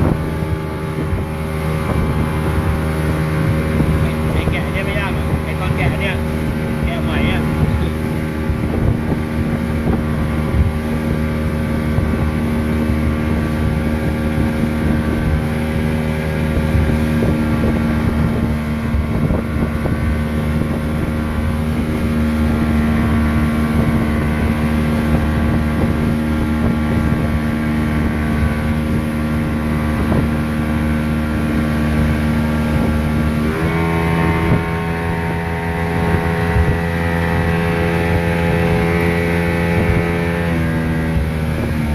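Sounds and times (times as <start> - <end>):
motorboat engine running: 0.0 - 41.9
wind on microphone: 0.0 - 41.9.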